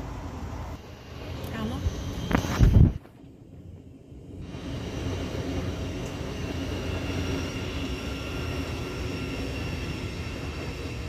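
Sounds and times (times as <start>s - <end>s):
faint high whine: 0.0s - 11.0s
train rumbling: 0.0s - 11.0s.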